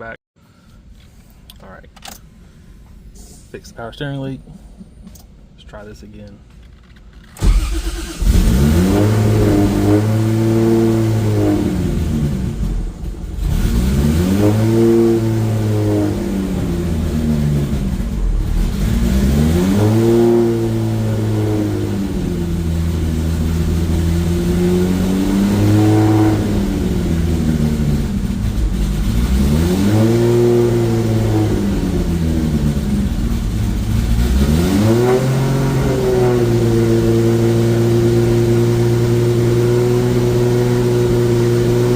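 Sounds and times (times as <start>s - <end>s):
car engine revving: 7.4s - 41.9s.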